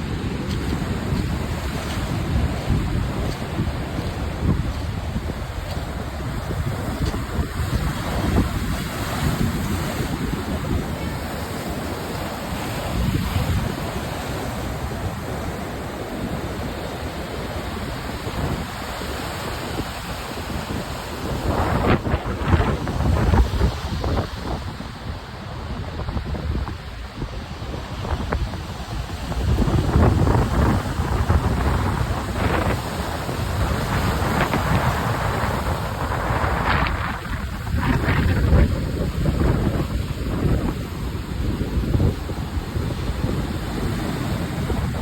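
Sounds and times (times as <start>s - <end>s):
waves breaking: 0.0s - 45.0s
wind on microphone: 0.0s - 45.0s.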